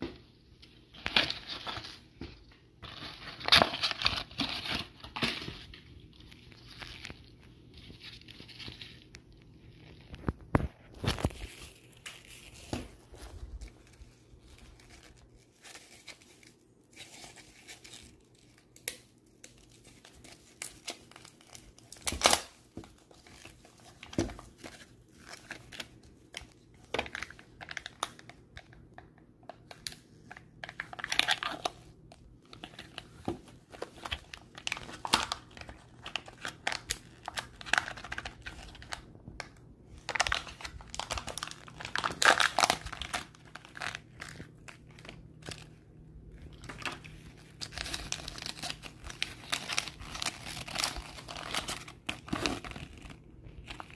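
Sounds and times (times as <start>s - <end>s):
wrappers crinkling and tearing: 2.8s - 28.3s, 30.6s - 39.1s, 40.0s - 53.9s.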